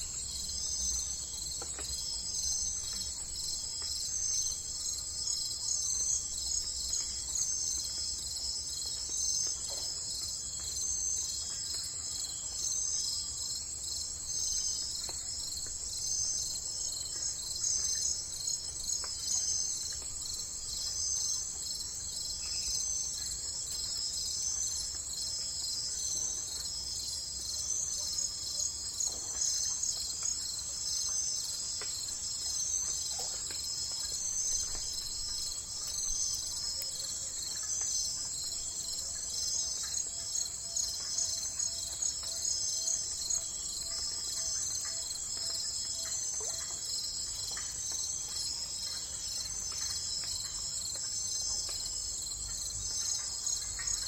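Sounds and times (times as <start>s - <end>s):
insects trilling: 8.7s - 54.0s.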